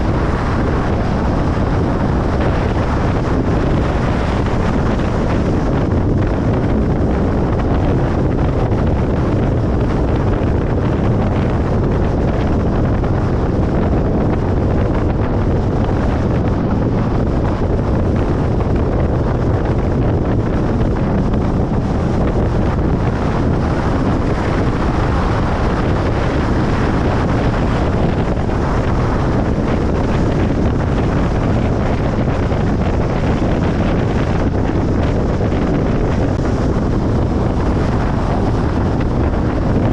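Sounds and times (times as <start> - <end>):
car road noise on motorway: 0.0 - 39.9.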